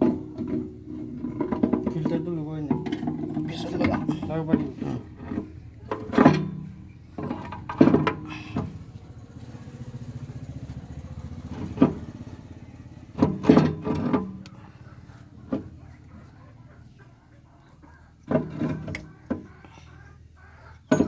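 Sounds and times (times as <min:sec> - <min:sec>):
engine running with rapid pulse: 0:00.0 - 0:21.0.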